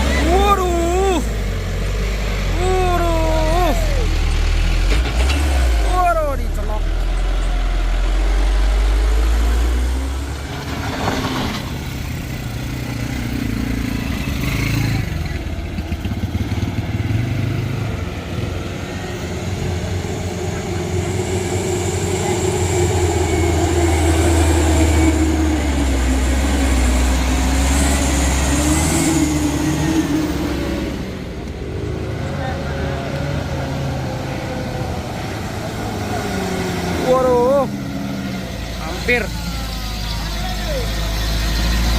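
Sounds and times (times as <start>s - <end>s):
diesel truck engine climbing: 0.0s - 41.9s.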